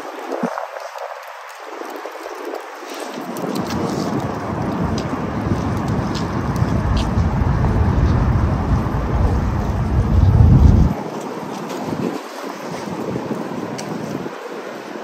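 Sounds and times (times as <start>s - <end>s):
wind buffeting a microphone: 0.0s - 15.0s.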